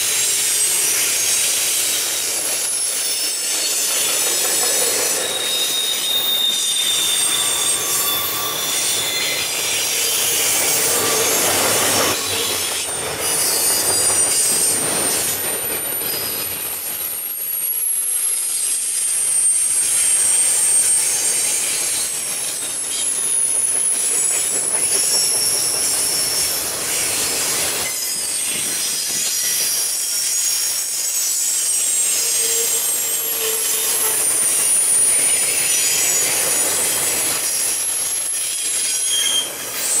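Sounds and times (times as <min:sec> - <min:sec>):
train cars rumbling and clattering: 0:00.0 - 0:40.0
high-pitched wheel squeal: 0:00.2 - 0:16.7, 0:17.6 - 0:40.0.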